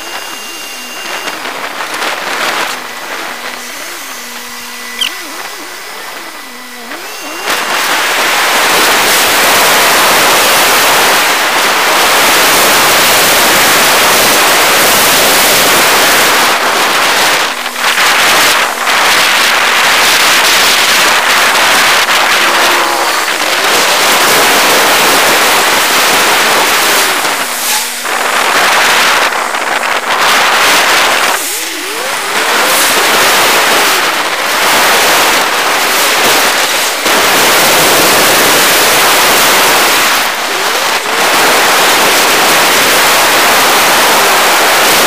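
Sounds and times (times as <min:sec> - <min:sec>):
car interior hum: 0:00.0 - 0:11.9, 0:12.8 - 0:45.0
road and wind noise: 0:00.0 - 0:45.0.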